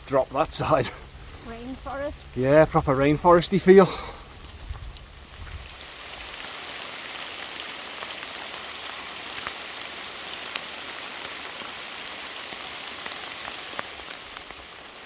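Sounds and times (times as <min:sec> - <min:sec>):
heavy rain hiss: 0:00.0 - 0:15.0
single rain drops striking: 0:02.1 - 0:15.0.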